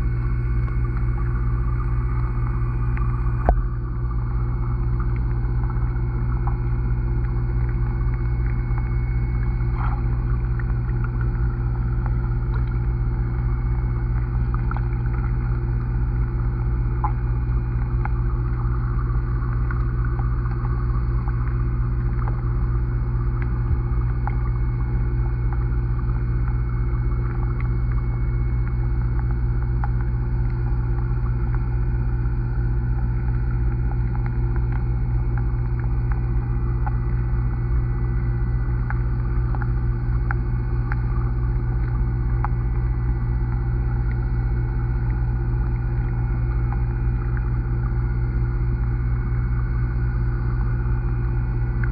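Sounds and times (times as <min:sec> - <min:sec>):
underwater low rumble and hum: 0:00.0 - 0:51.9.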